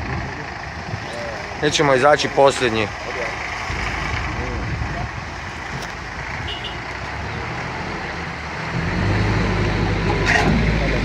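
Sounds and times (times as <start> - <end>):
car and truck engines running: 0.0 - 11.0.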